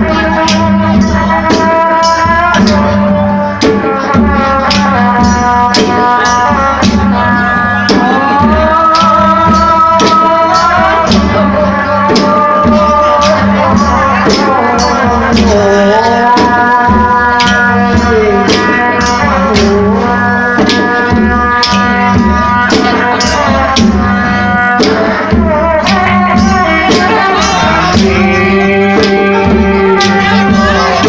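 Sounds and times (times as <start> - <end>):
percussion strokes: 0.0 - 31.0.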